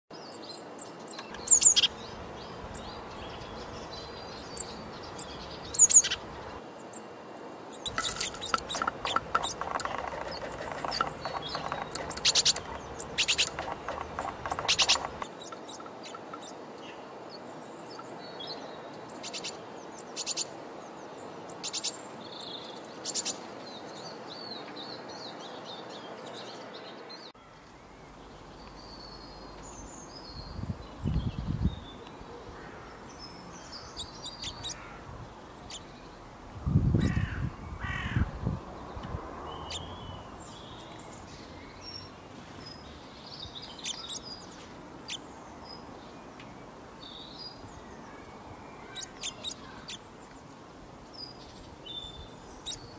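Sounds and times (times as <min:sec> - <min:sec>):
small birds calling: 0:00.1 - 0:07.1, 0:07.7 - 0:36.3, 0:36.9 - 0:52.9
outdoor background noise: 0:00.1 - 0:52.9.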